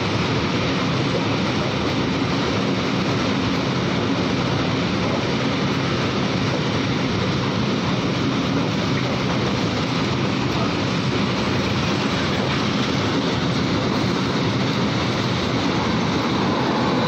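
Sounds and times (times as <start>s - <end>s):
train wheels on rail: 0.0s - 17.0s.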